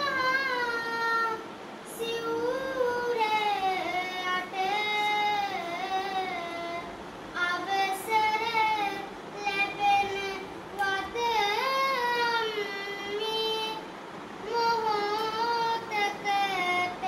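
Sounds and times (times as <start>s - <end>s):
child chanting verse: 0.0s - 17.0s.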